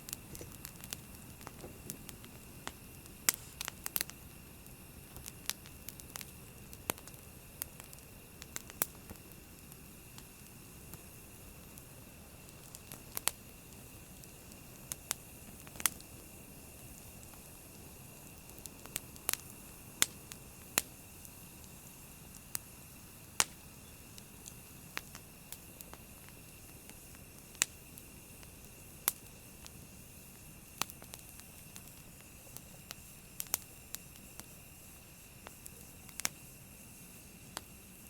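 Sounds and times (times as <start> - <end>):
campfire crackling: 0.0 - 38.0
low hiss: 0.0 - 38.0.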